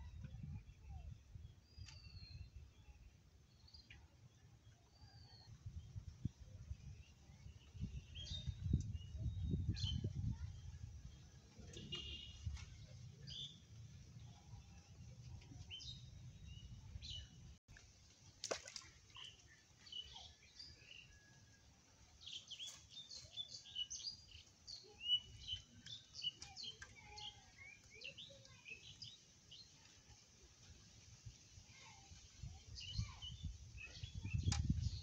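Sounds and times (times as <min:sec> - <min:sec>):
small birds chirping: 0:00.0 - 0:17.6, 0:18.5 - 0:21.3, 0:22.1 - 0:35.0.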